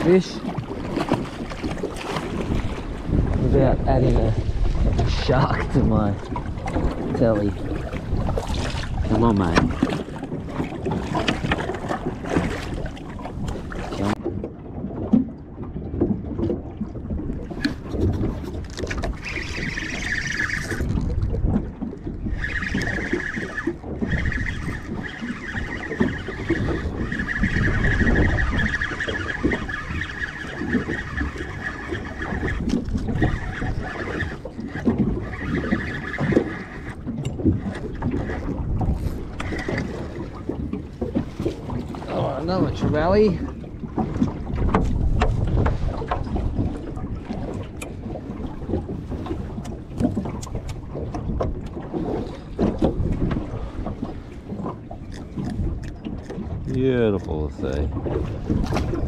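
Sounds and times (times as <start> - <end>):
water slapping boat hull: 0.0 - 59.0
wind buffeting microphone: 0.0 - 59.0.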